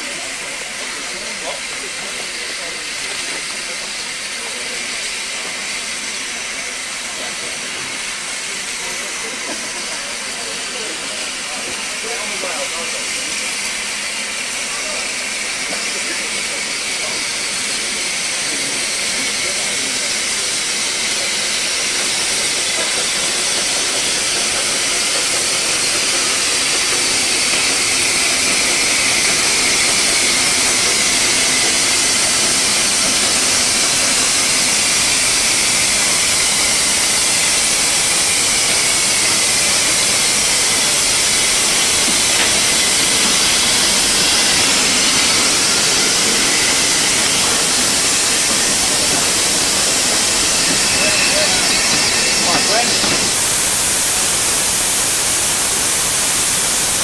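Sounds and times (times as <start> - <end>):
steam locomotive hissing: 0.0 - 57.0.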